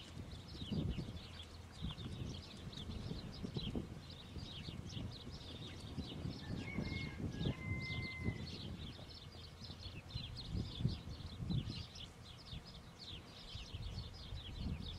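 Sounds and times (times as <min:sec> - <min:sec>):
hooves galloping on soft dirt: 0:00.0 - 0:13.2
small birds chirping: 0:00.0 - 0:14.9.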